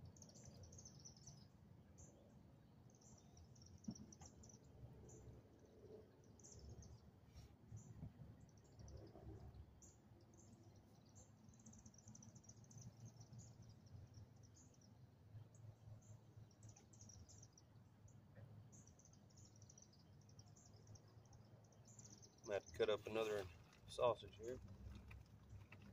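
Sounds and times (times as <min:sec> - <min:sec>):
low steady outdoor hum: 0:00.0 - 0:25.9.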